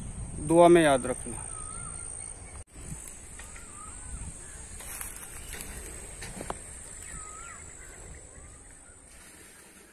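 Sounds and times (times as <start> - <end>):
birds calling with whistled notes: 0.0 - 9.9.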